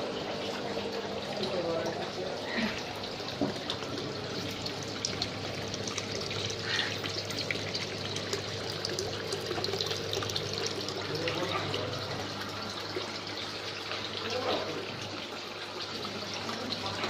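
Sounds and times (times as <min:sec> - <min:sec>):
water pouring into a tank: 0:00.0 - 0:17.0.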